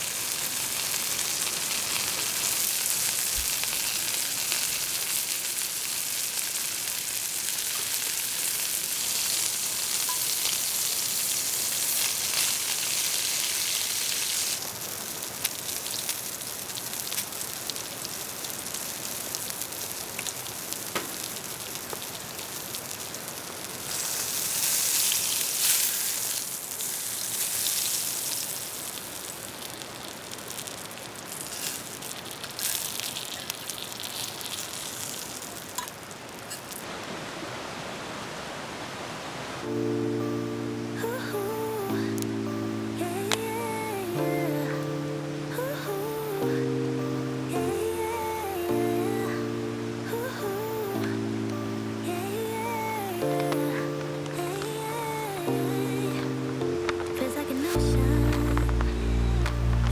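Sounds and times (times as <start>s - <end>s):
meat sizzling over a campfire: 0.0s - 59.9s.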